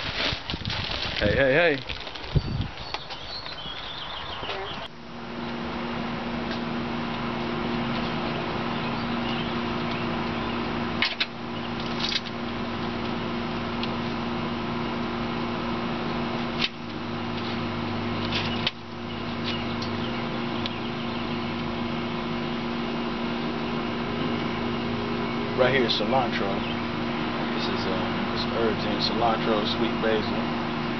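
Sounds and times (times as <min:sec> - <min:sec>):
mechanical hum: 0:00.0 - 0:30.9.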